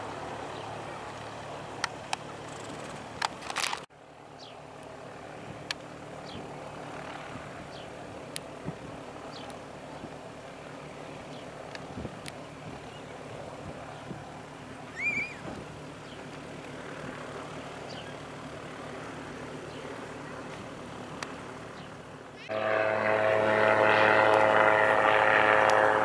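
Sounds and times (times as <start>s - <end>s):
gyroplane engine and propeller drone: 0.0s - 26.0s.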